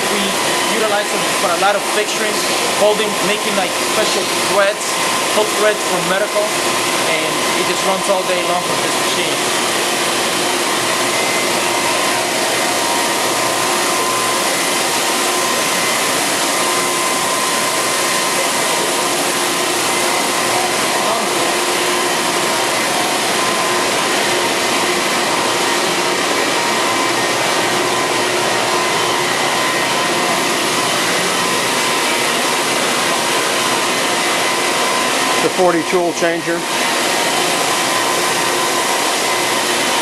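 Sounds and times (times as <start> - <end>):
lathe machining hiss: 0.0 - 40.0.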